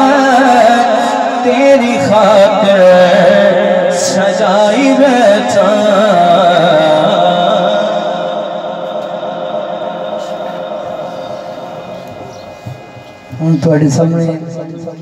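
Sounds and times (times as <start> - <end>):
man singing over loudspeaker: 0.0 - 12.2.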